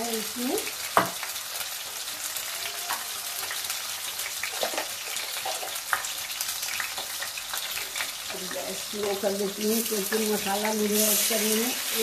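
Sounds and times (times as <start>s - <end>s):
potatoes frying in hot oil: 0.0s - 12.0s.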